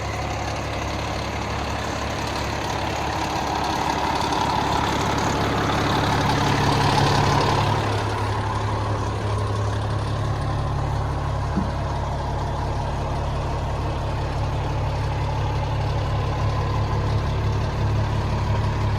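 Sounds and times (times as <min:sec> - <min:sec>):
diesel truck engine idling: 0:00.0 - 0:18.9.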